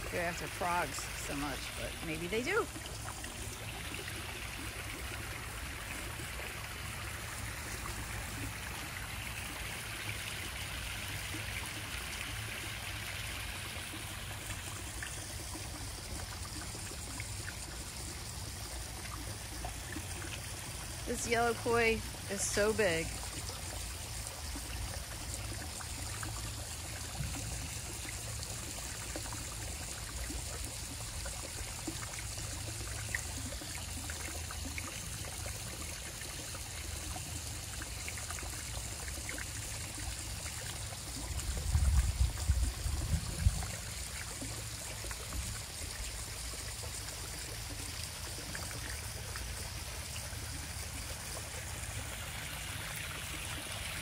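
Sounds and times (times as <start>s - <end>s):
small waterfall into pond: 0.0s - 54.0s.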